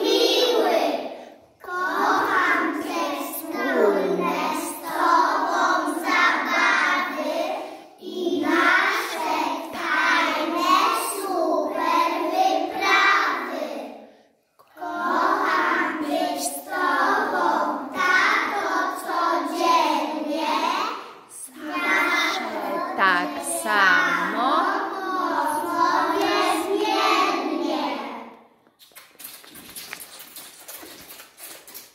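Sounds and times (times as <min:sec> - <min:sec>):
children singing in unison: 0:00.0 - 0:28.4.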